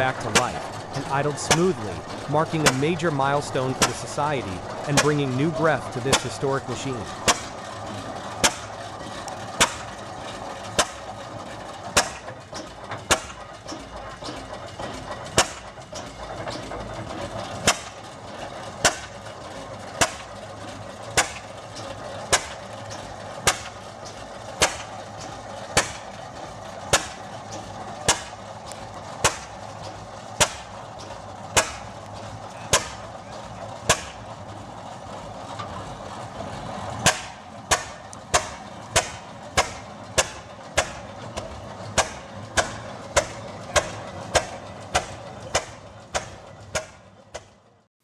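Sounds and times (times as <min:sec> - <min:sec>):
sharp exhaust cracks: 0:00.0 - 0:47.6
tractor engine idling: 0:00.0 - 0:47.9.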